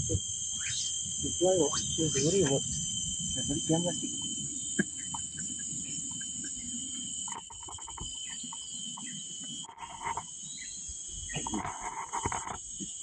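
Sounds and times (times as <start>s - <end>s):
high-pitched insect drone: 0.0s - 13.0s
short insect chirps: 0.0s - 13.0s.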